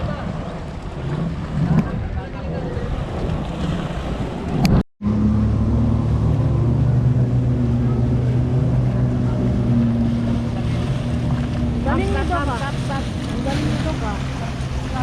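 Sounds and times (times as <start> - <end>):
watercraft engine humming: 0.0 - 15.0.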